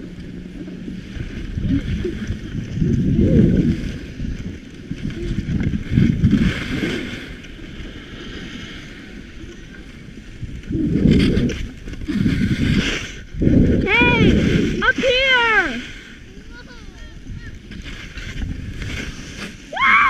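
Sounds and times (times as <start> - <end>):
wind buffeting microphone: 0.0 - 20.0
skis sliding on snow: 0.6 - 20.0.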